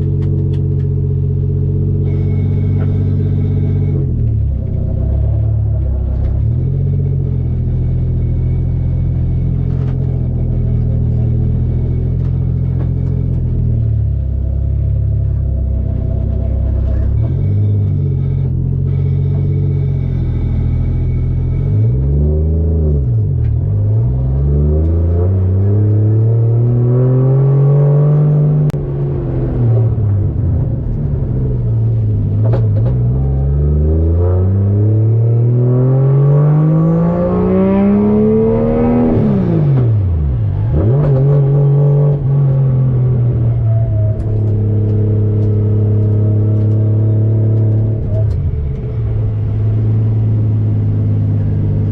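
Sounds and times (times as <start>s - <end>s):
turbocharged engine revving: 0.0s - 51.9s.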